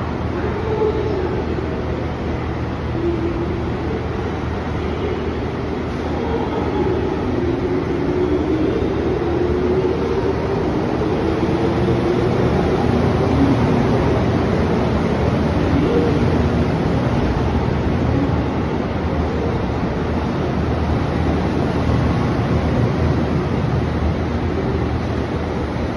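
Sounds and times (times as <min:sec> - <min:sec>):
train running noise: 0:00.0 - 0:25.9.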